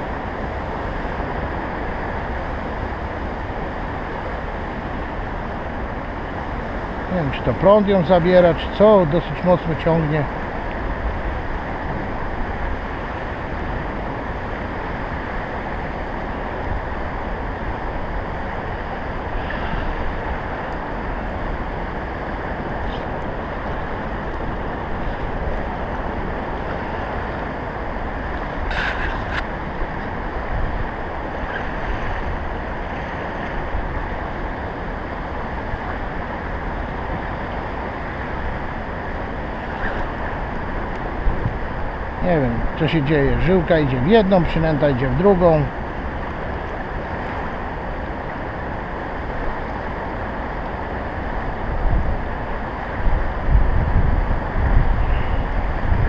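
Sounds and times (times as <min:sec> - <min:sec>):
river water rushing: 0:00.0 - 0:56.0
wind buffeting microphone: 0:00.0 - 0:56.0.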